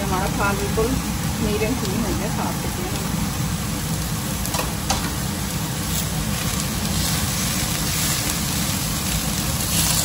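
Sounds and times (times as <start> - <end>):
vegetables sizzling in wok: 0.0 - 10.0.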